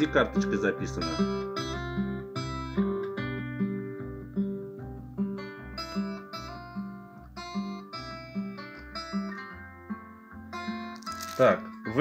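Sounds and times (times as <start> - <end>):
guitar music from speakers: 0.0 - 12.0.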